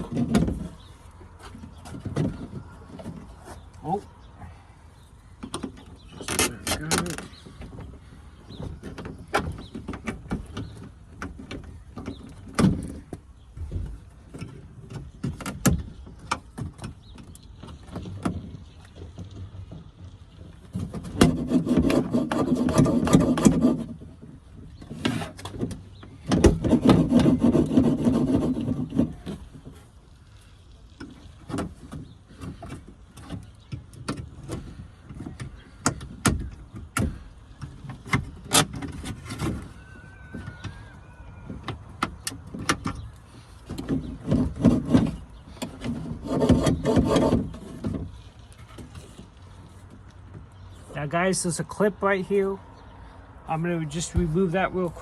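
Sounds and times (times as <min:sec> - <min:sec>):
plastic panel rubbing and rattling: 0:00.0 - 0:04.3, 0:05.2 - 0:52.5, 0:53.5 - 0:55.0.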